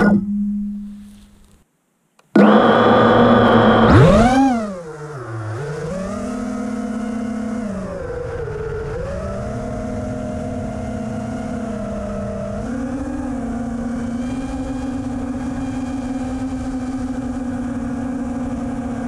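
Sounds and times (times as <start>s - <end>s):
drone motors whining: 2.2s - 19.0s.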